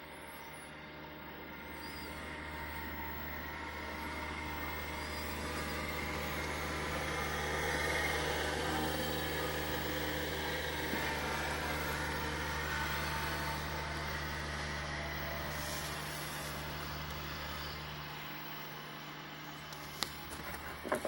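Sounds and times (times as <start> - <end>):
vehicle passing: 1.6 - 21.0.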